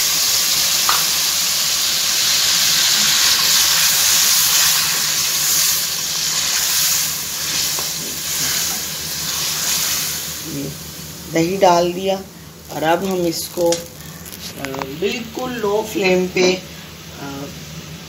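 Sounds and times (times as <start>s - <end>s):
yogurt sizzling in hot oil: 0.0s - 18.0s.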